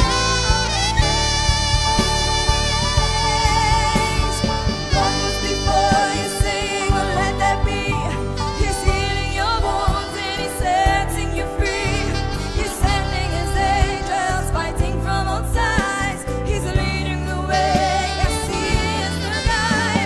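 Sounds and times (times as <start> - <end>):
bass and percussion: 0.0 - 20.0
song with wavering sung vocals: 2.9 - 20.0.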